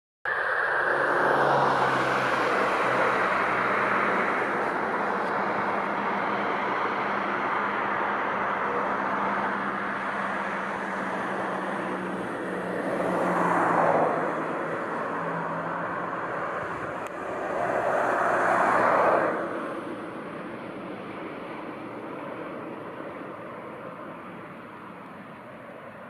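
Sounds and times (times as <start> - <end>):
distant jet drone overhead: 0.3 - 26.0.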